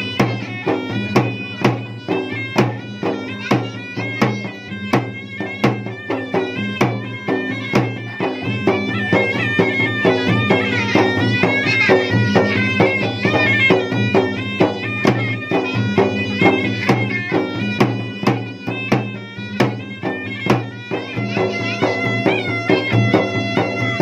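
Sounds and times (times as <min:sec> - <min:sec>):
drums beating: 0:00.0 - 0:24.0
shrill reed pipe melody: 0:00.0 - 0:24.0.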